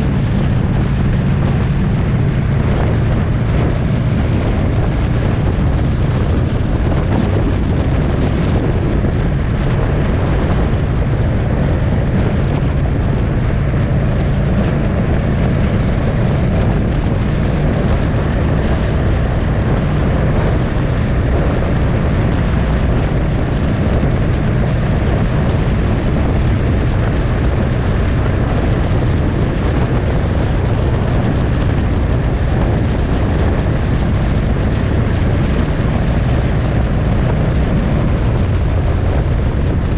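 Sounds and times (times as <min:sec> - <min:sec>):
motorcycle engine cruising: 0:00.0 - 0:39.9
wind on microphone: 0:00.0 - 0:39.9.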